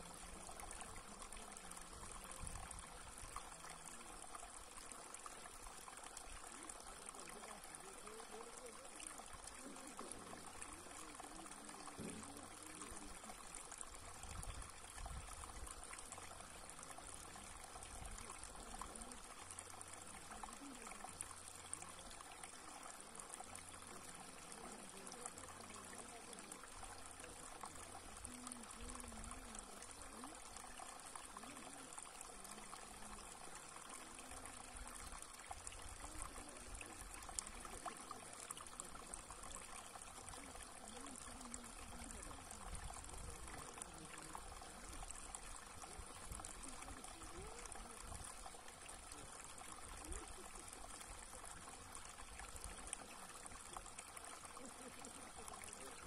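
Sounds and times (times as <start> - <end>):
water trickling over stone: 0.0 - 56.0.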